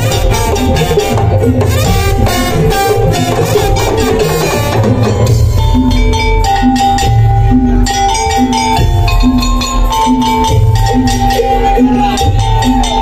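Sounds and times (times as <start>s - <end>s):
drums and percussion band: 0.0s - 13.0s.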